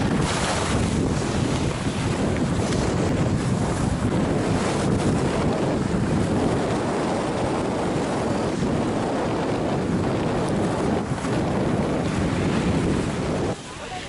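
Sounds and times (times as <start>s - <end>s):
wind rumbling over microphone: 0.0s - 14.0s.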